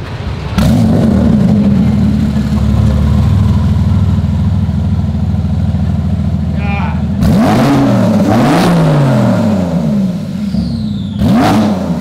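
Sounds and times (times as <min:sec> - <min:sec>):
car engine starting and idling: 0:00.0 - 0:12.0.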